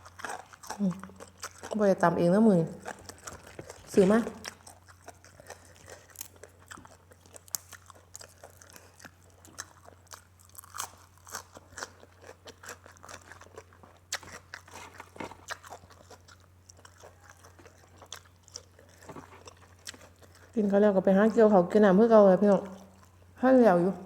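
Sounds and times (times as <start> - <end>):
person chewing crunchy food: 0.0 - 1.9, 2.7 - 20.6, 22.6 - 23.3.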